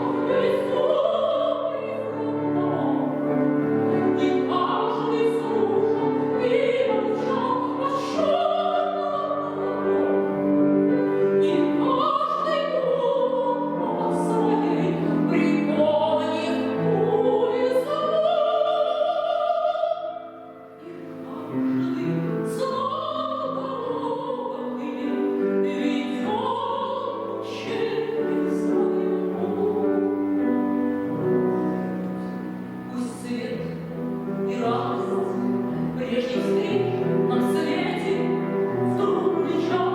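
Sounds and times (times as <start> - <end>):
woman singing operatically: 0.0 - 30.2, 32.9 - 39.9
grand piano: 0.0 - 39.9.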